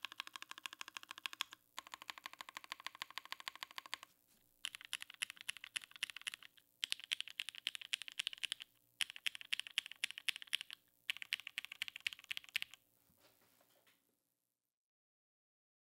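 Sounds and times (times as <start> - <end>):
fast typing on mechanical keyboard: 0.0 - 12.8.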